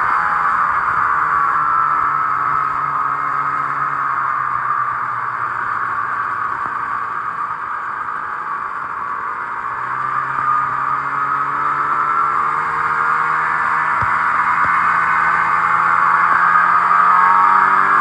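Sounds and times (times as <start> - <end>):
steady high whine: 0.0 - 18.0.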